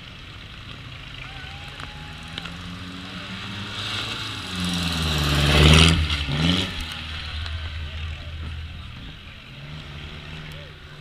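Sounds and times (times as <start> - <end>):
car engine accelerating past: 1.2 - 11.0.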